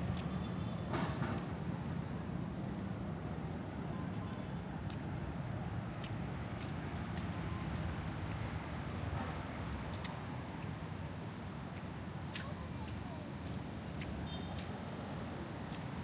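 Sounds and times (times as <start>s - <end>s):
rumble of passing cars: 0.0s - 16.0s.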